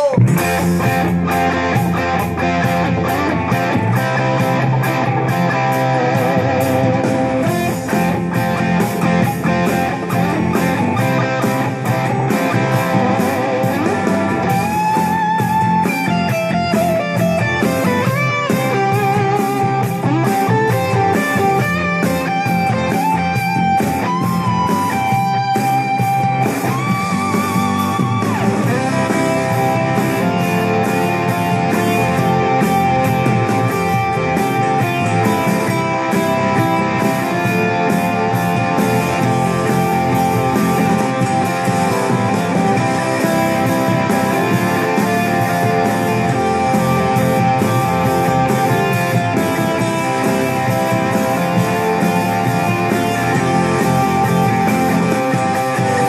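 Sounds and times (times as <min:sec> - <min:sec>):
electric guitar lead line: 0:00.0 - 0:56.0.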